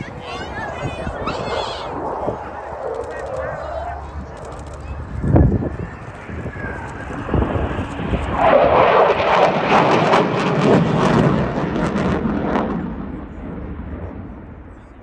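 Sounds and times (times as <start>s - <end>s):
jet passing with crackle: 0.0s - 15.0s.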